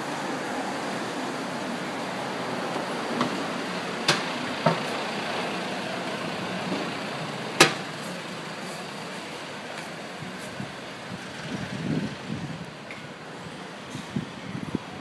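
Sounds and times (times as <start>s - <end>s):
cars passing on city street: 0.0s - 15.0s.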